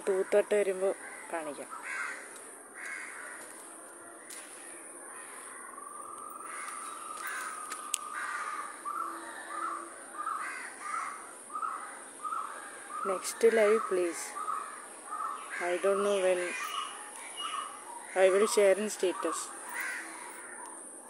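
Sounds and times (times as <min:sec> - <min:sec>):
bird cawing: 0:00.0 - 0:03.6, 0:04.6 - 0:20.9.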